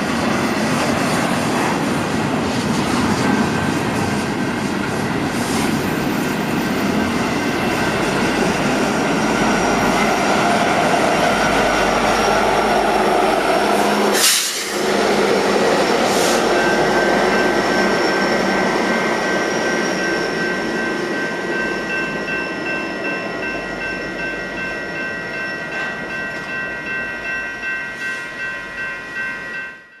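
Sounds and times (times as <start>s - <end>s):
train wheels rolling on rails: 0.0s - 30.0s.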